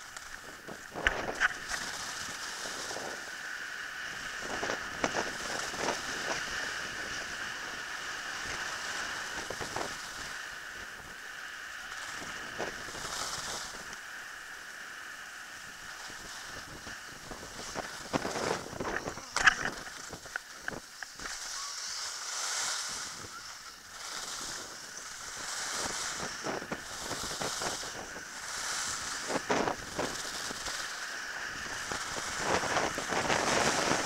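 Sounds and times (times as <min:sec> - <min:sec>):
wind on microphone: 0:00.0 - 0:14.0, 0:15.6 - 0:34.0
skis sliding over snow: 0:00.0 - 0:34.0.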